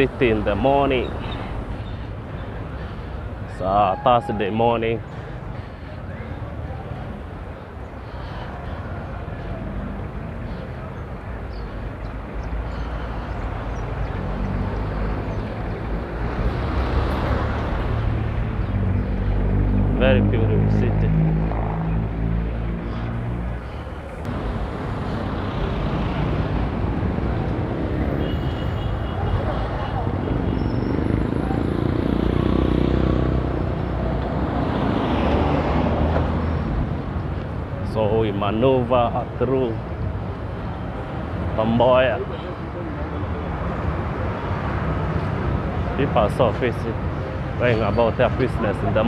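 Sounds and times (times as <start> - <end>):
low rumble of traffic: 0.0 - 49.0.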